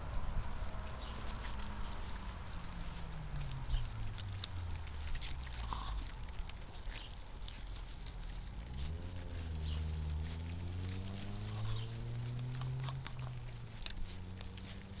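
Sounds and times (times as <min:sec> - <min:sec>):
low engine hum: 0:00.0 - 0:15.0
puppies lapping wet food: 0:00.0 - 0:15.0.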